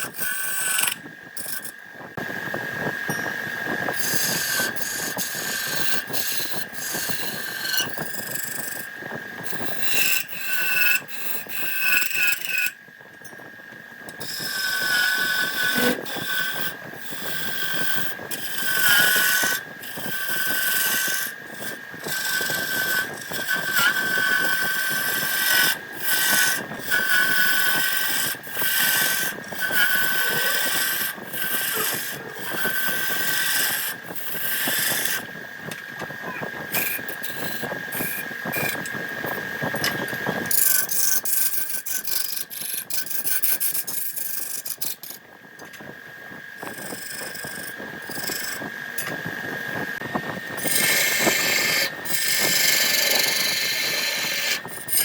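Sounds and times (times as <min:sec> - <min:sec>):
turning tool cutting wood: 0:00.0 - 0:01.8, 0:03.9 - 0:55.0
wood lathe high whine: 0:00.0 - 0:55.0.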